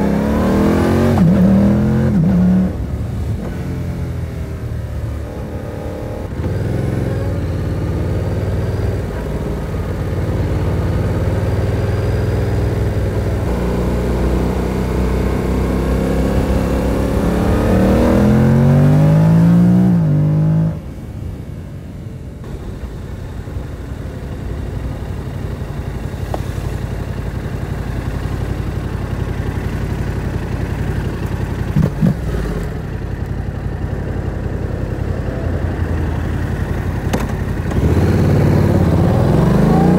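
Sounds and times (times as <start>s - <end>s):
motorcycle engine revving: 0.0s - 21.0s, 22.5s - 39.9s.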